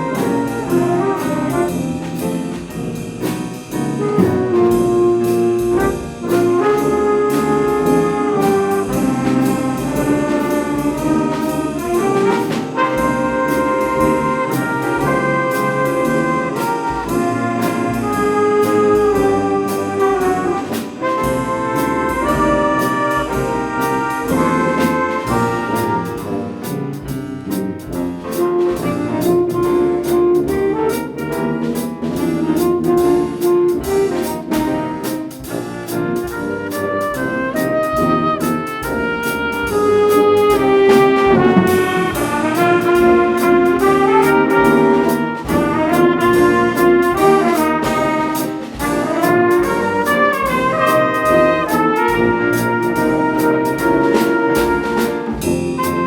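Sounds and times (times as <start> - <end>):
drum and cymbal strikes: 0.0 - 56.0
jazz big band playing: 0.0 - 56.0
trumpets and trombones: 0.0 - 56.0.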